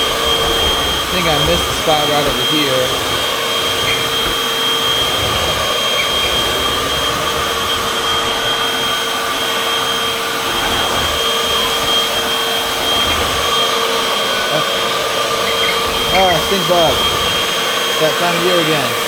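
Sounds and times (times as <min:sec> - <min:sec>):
vacuum cleaner motor whine: 0:00.0 - 0:19.0.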